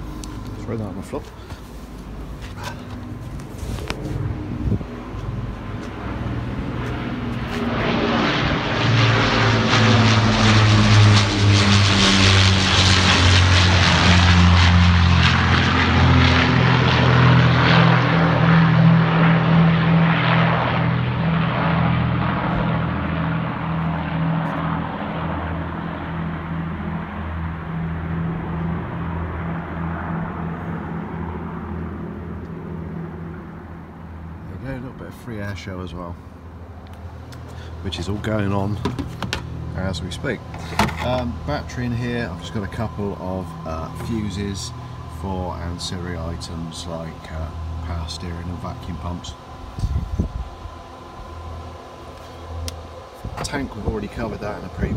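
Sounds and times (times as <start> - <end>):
propeller aircraft engine drone: 0.0 - 54.9.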